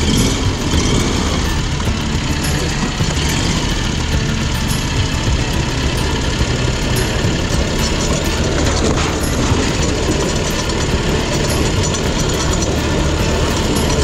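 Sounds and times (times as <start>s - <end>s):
riding mower engine running: 0.0s - 14.0s.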